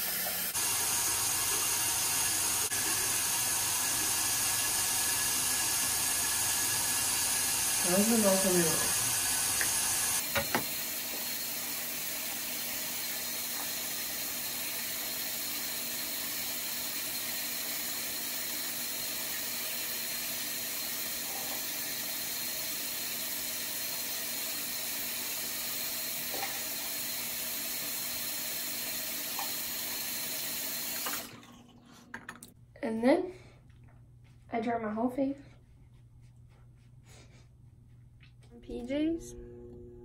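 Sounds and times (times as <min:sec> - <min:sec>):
faucet running into basin: 0:00.0 - 0:32.4.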